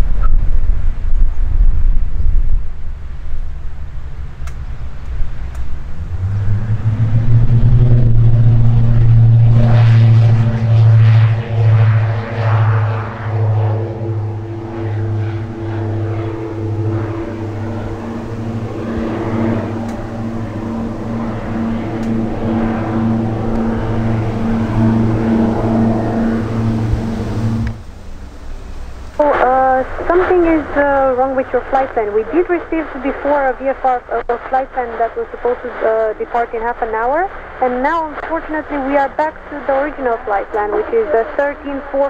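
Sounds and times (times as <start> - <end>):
propeller aircraft taking off: 0.0 - 42.0.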